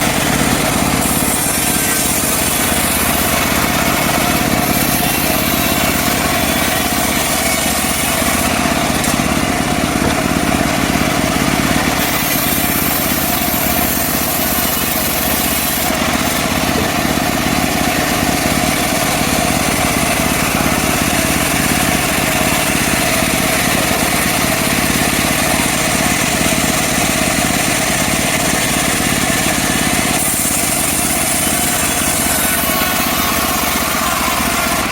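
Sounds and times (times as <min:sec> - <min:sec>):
engine-driven band sawmill running: 0:00.0 - 0:34.9.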